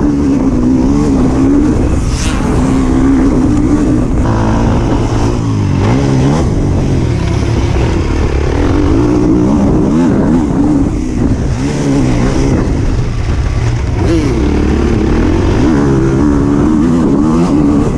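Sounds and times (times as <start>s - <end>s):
motors revving unevenly: 0.0s - 17.9s.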